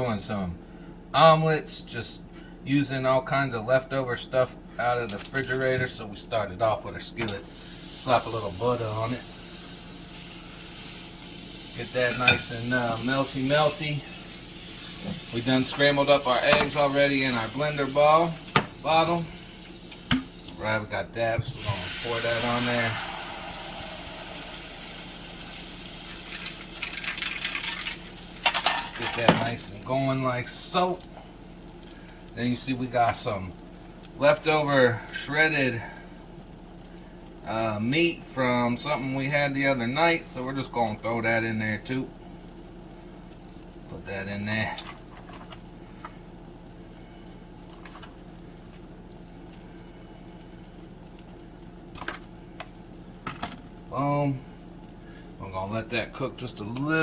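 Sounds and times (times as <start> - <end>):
eggs sizzling in a skillet: 7.2 - 57.0.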